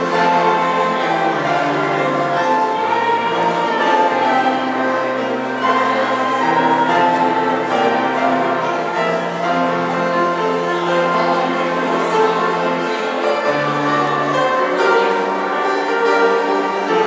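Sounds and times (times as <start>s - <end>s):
church music sustained chords: 0.0s - 17.0s.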